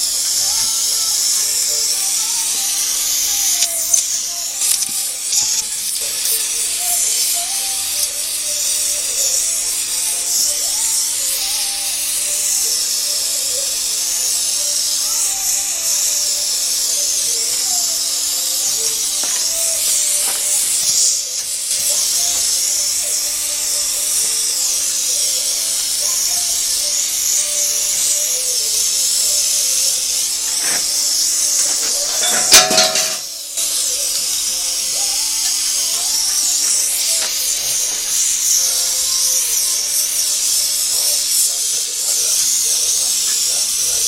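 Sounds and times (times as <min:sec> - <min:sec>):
gas torch flame hissing: 0:00.0 - 0:44.0.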